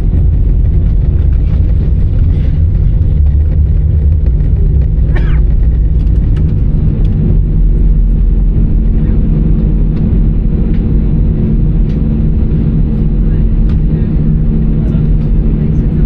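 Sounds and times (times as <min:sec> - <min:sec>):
aircraft engines rumbling: 0:00.0 - 0:16.0.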